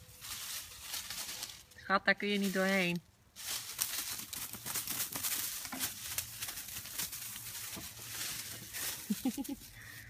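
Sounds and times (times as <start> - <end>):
leaves rustling: 0.0 - 10.0
twigs crackling: 0.0 - 10.0.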